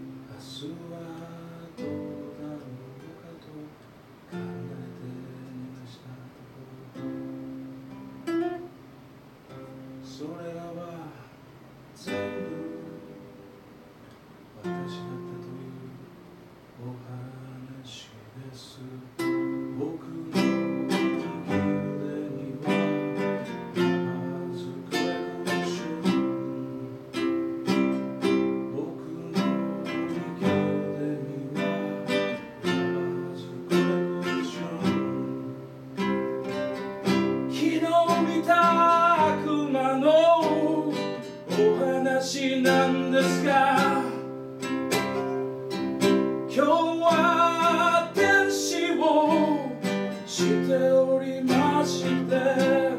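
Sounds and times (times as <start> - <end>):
man singing: 0.0 - 7.3, 10.0 - 11.4, 12.0 - 13.4, 14.6 - 52.9
acoustic guitar strumming: 0.0 - 52.9.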